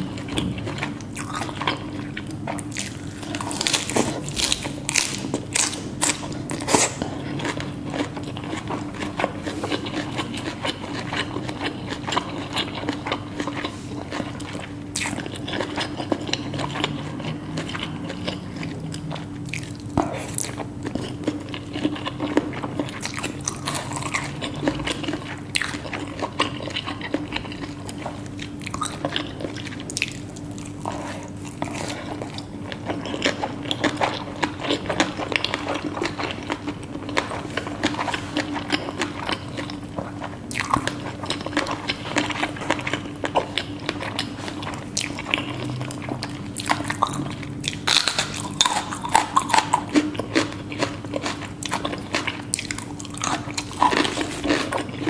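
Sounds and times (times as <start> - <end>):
chewing and crunching: 0.0 - 55.0
faint steady hum: 0.0 - 55.0.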